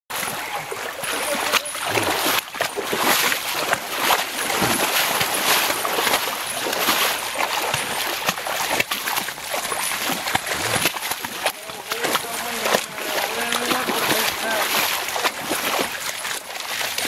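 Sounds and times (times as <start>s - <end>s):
water splashing around wading steps: 0.1s - 17.0s.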